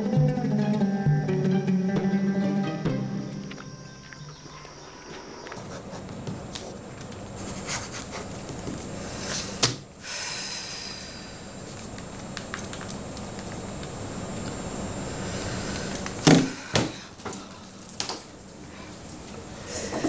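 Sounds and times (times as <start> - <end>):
steady hiss: 3.6 - 20.0.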